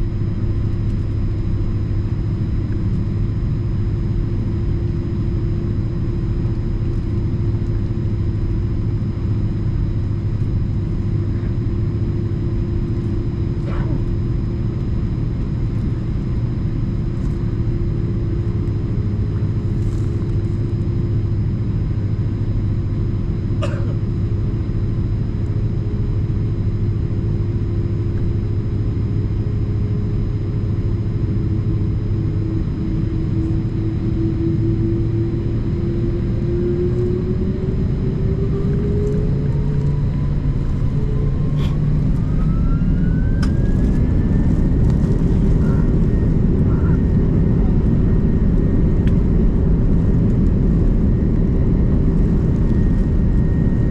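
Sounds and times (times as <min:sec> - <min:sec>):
jet engines rumbling and whining: 0:00.0 - 0:53.9.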